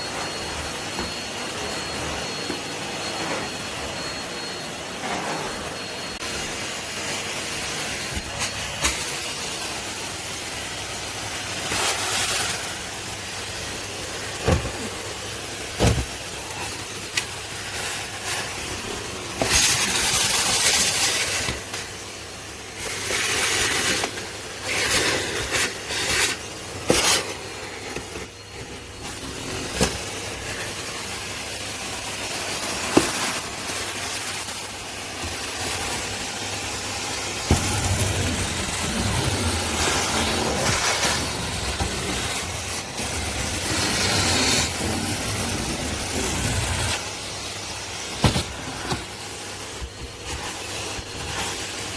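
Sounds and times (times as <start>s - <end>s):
vacuum cleaner suction hiss: 0.0s - 51.9s.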